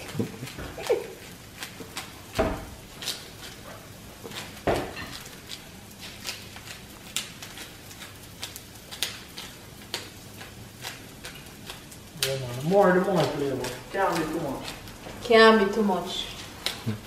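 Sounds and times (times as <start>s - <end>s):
pepper grinder cracking peppercorns: 0.0s - 3.6s, 4.2s - 17.0s.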